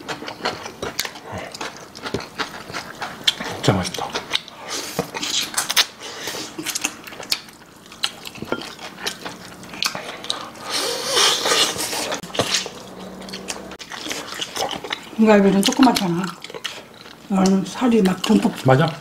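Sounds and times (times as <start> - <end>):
wet chewing and smacking: 0.0 - 19.0.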